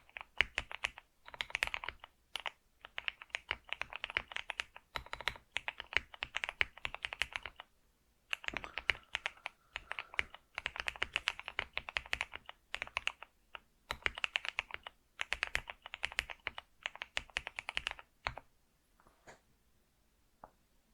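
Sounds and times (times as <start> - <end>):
computer keyboard typing: 0.0 - 7.7, 8.3 - 18.4.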